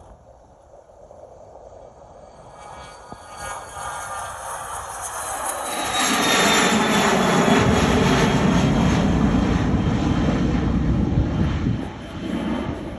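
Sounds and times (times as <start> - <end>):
high jet whine: 0.0 - 12.9
jet engines roaring: 0.0 - 12.9.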